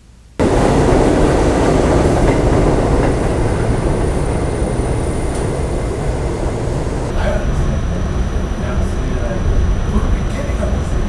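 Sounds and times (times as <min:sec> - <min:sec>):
faint high whine: 0:00.4 - 0:10.1
subway train rumbling on track: 0:00.4 - 0:11.0.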